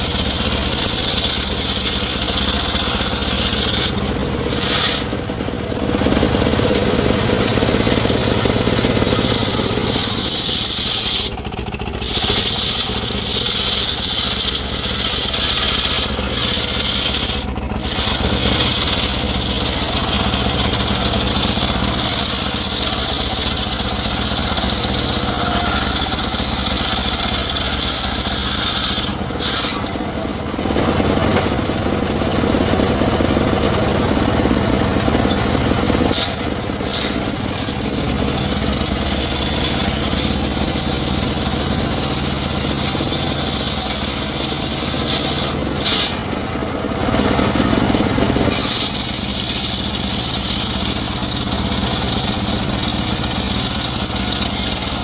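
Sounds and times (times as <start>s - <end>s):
engine-driven saw cutting wood: 0.0s - 55.0s.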